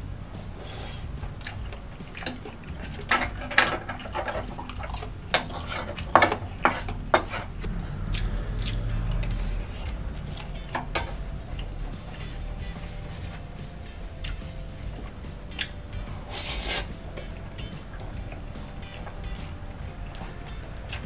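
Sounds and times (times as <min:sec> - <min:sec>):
utensils clinking against bowls: 0:00.6 - 0:07.6, 0:08.6 - 0:21.0
wet chewing: 0:00.6 - 0:21.0.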